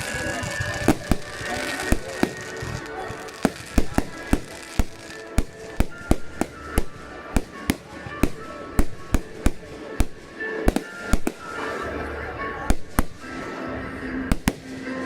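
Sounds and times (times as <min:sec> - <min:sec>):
fireworks banging: 0:00.0 - 0:11.9, 0:12.6 - 0:13.5, 0:14.2 - 0:15.0
music playing: 0:00.0 - 0:15.0.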